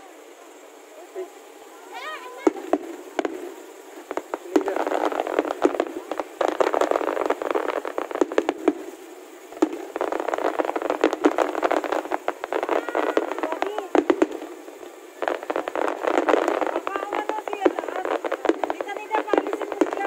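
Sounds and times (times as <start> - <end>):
fireworks popping and crackling: 1.1 - 20.0.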